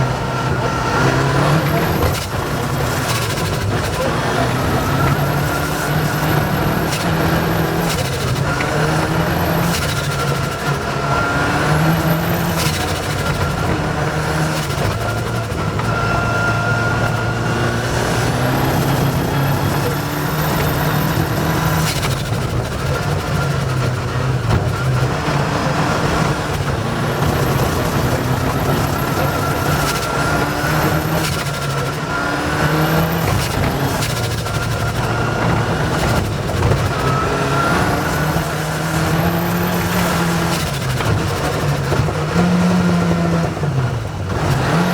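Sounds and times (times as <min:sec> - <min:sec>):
high engine whine: 0:00.0 - 0:44.9
rally car engine accelerating: 0:00.0 - 0:44.9.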